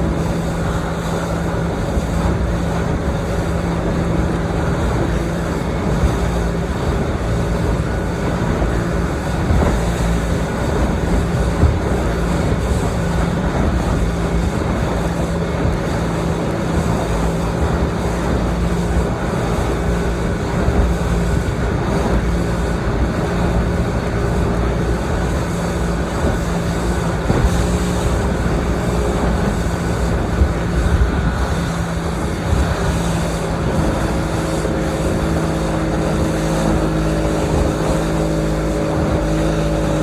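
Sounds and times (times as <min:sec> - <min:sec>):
motorboat engine humming: 0:00.0 - 0:40.0
rush of wind and water: 0:00.0 - 0:40.0.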